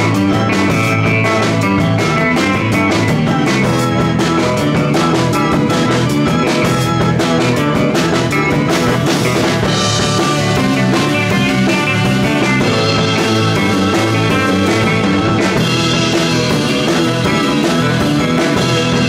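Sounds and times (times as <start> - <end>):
electric guitar: 0.0 - 19.0
rock band playing: 0.0 - 19.0.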